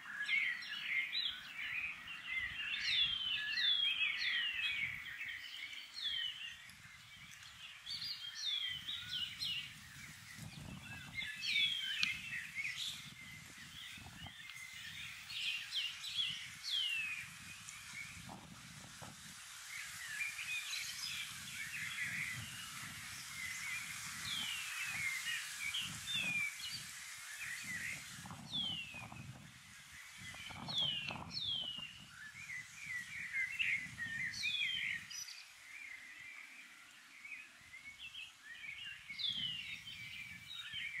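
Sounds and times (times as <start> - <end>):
birds twittering: 0.0 - 41.0.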